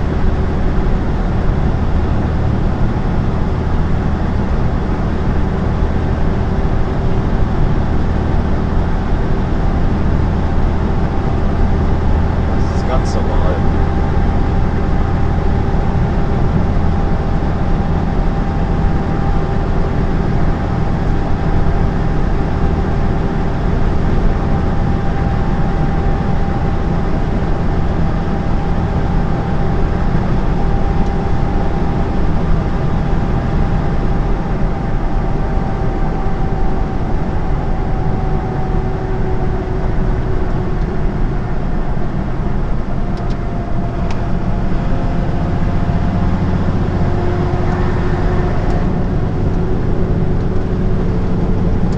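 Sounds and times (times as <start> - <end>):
faint whine: 0.0 - 51.9
lorry engine and tyre drone: 0.0 - 51.9.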